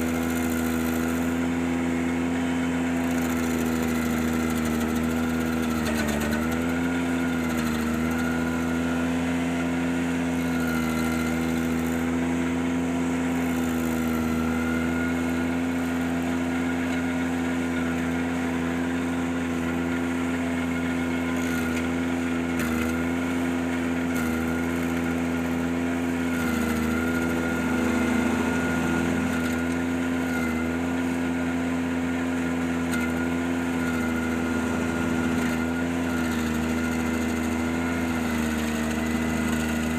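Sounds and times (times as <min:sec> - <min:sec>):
tractor engine at high throttle: 0:00.0 - 0:39.9.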